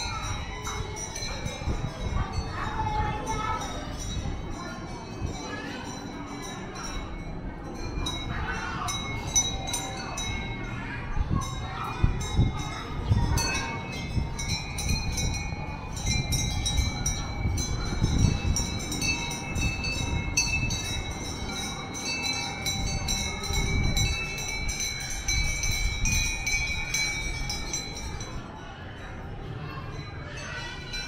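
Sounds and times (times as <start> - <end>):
small metal bells clinking: 0.0 - 31.0.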